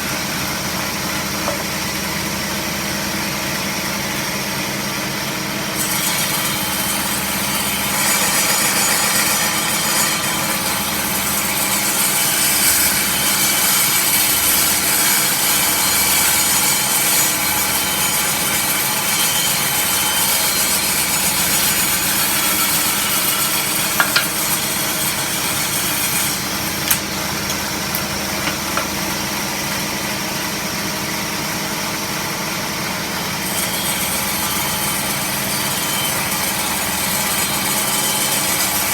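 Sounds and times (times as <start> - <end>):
table saw cutting wood: 0.0 - 38.9.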